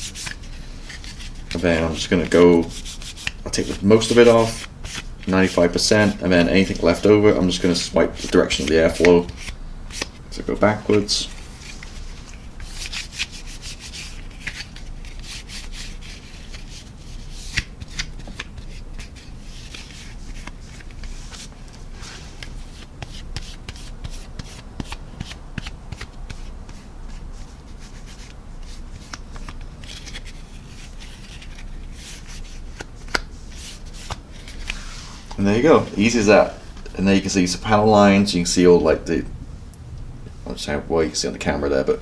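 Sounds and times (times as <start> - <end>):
paper towel scratching plastic: 0.0 - 36.6.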